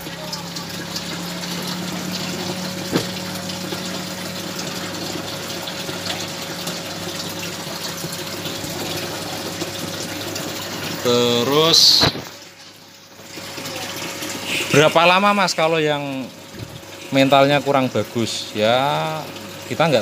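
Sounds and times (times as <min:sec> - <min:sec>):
aquarium pump water splashing: 0:00.0 - 0:20.0.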